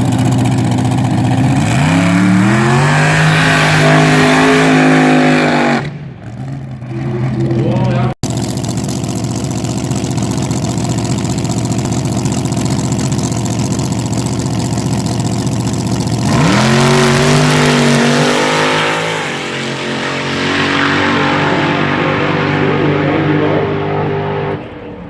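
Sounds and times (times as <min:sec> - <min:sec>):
dragster engine revving: 0:00.0 - 0:24.8.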